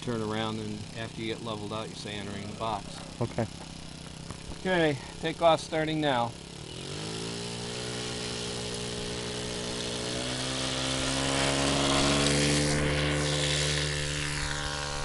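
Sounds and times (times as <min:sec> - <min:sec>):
model airplane motor buzzing: 0:00.0 - 0:15.0.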